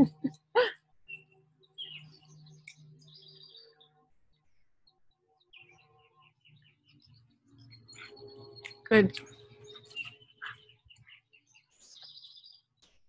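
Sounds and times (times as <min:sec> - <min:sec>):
faint bird chirps: 0:00.6 - 0:12.7.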